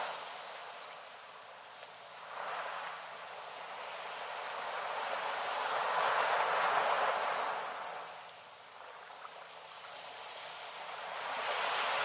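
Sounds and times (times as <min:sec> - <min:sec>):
sea waves washing on beach: 0:00.0 - 0:12.0.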